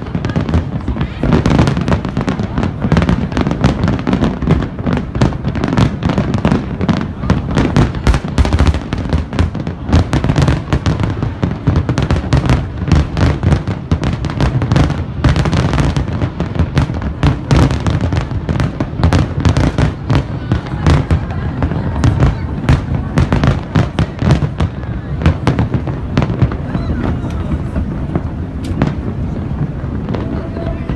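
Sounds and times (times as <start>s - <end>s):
deep fireworks booms: 0.0s - 30.9s.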